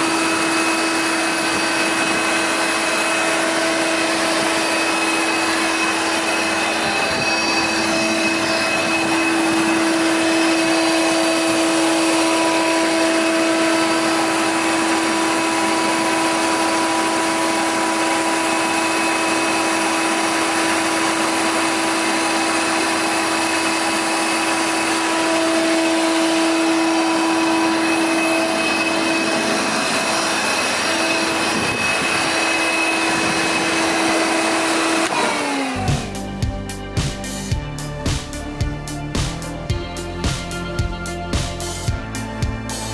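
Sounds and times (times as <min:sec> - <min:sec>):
thickness planer running: 0:00.0 - 0:42.9.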